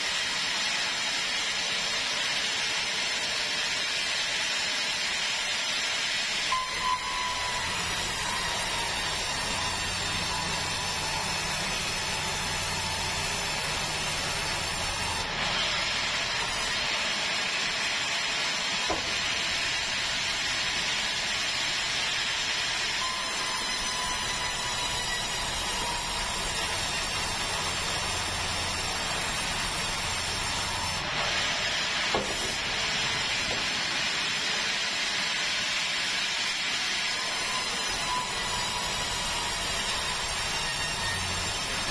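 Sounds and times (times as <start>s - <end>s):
band saw cutting log: 0.0s - 41.9s.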